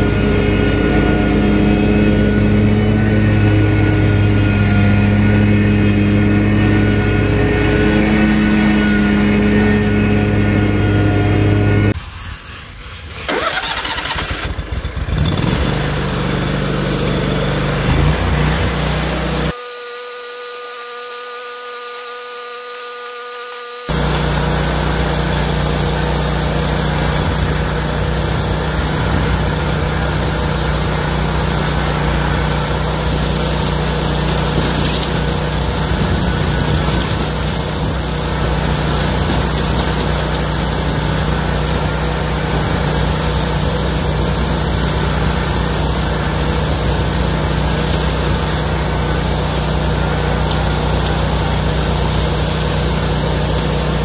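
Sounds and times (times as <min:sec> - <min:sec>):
riding lawn mower engine: 0:00.0 - 0:54.0.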